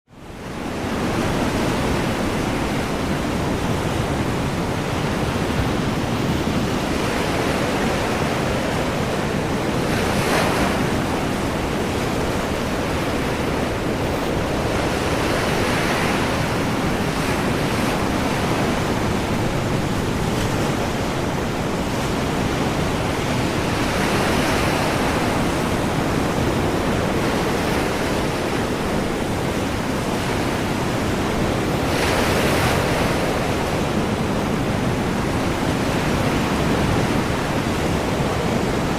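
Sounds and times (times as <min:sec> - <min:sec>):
wind: 0:00.0 - 0:38.9
waves breaking: 0:00.5 - 0:38.9.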